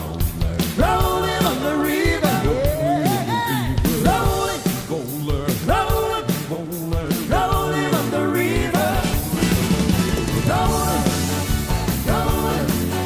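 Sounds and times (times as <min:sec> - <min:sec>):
person singing: 0:00.0 - 0:09.4, 0:10.4 - 0:13.0
live rock and roll band: 0:00.0 - 0:13.0.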